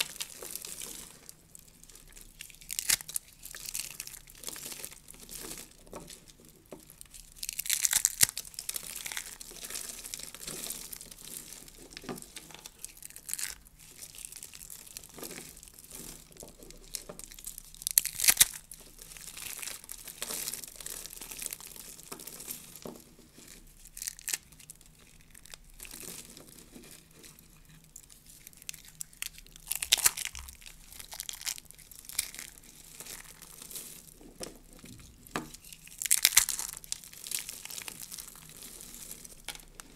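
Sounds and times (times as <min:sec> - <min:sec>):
dry soap flakes crunching: 0:00.0 - 0:39.9.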